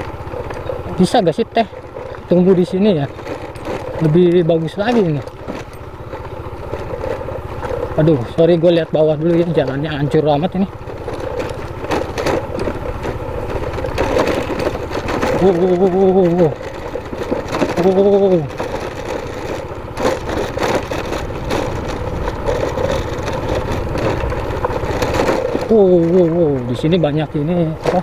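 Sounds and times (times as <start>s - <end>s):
knocks and rattles: 0.0s - 28.0s
motorcycle engine running: 0.0s - 28.0s.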